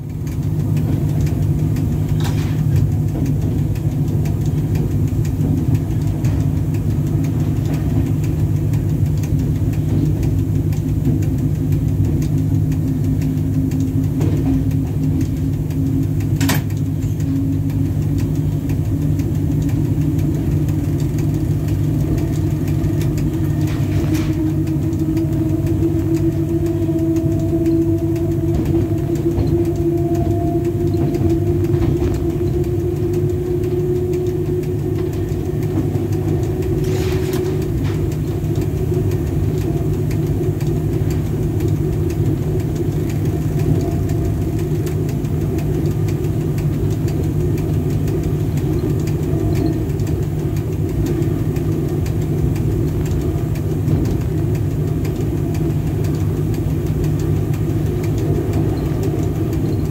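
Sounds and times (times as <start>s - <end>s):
locomotive hum and rumble: 0.0s - 59.9s
steady tone: 11.6s - 59.9s.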